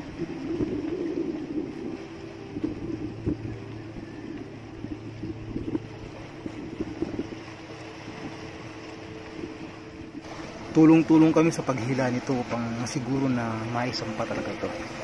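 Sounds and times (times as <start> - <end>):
boat engine humming: 0.0 - 15.0
knocks and splashes: 0.0 - 15.0.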